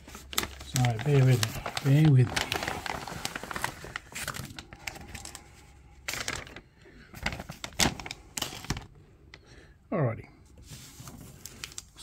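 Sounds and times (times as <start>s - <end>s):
plastic wrapping crinkling: 0.0s - 9.0s, 10.8s - 12.0s.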